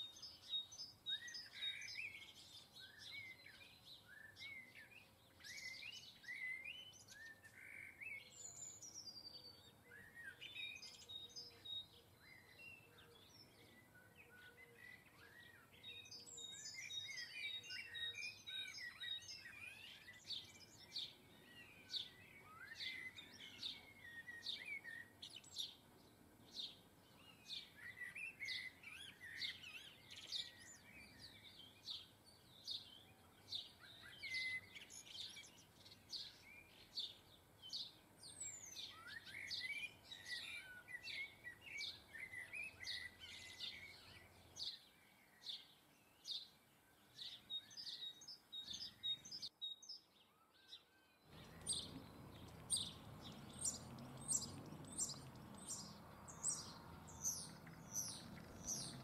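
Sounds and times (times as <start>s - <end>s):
small birds chirping and singing: 0.0s - 59.0s.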